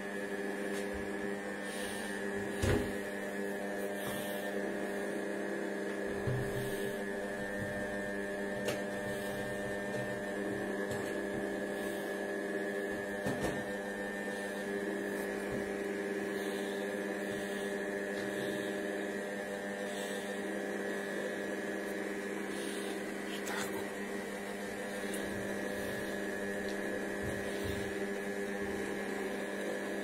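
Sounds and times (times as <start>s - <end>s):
kitchen robot motor hum with whine: 0.0s - 30.0s.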